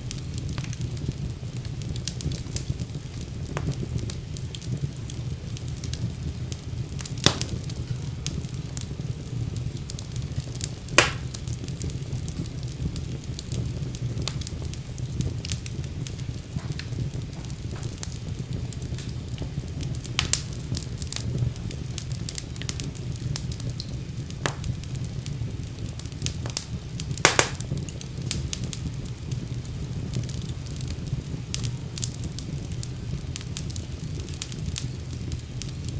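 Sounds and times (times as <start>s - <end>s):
fire crackling and popping: 0.0s - 35.9s
fire rumbling: 0.0s - 35.9s.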